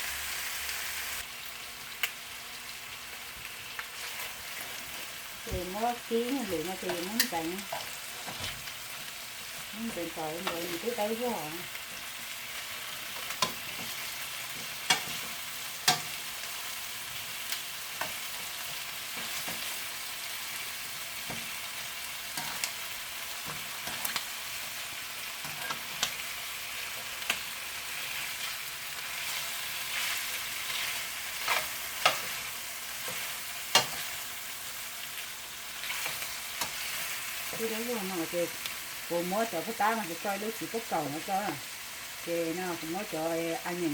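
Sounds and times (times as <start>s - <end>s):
chicken wings sizzling in a pan: 0.0s - 43.9s.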